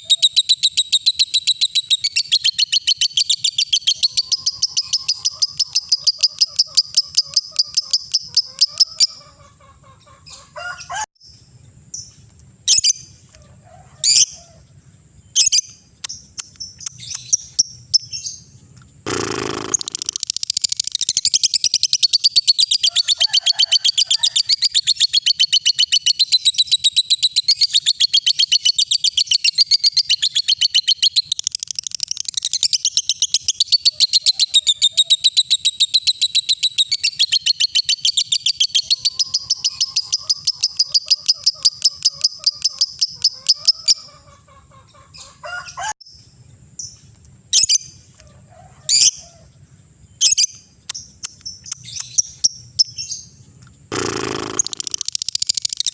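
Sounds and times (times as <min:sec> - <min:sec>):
bird chattering trill: 0:00.0 - 0:10.5, 0:15.4 - 0:45.4, 0:50.2 - 0:55.9
bird chirps: 0:00.0 - 0:10.5, 0:14.0 - 0:23.2, 0:24.4 - 0:45.4, 0:46.0 - 0:48.1, 0:48.9 - 0:55.9.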